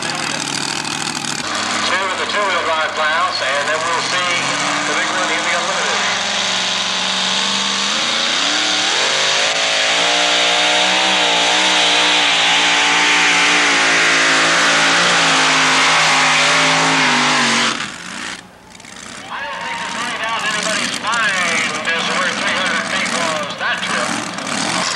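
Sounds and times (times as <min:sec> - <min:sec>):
truck engine at full throttle: 0:00.0 - 0:24.9.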